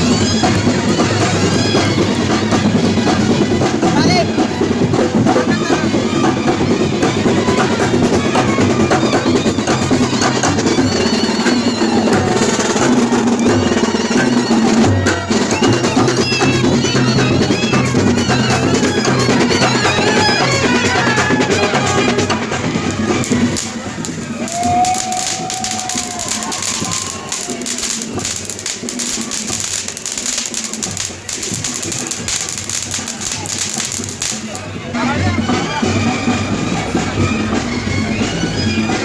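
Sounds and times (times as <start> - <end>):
drum-led percussion music: 0.0 - 39.0.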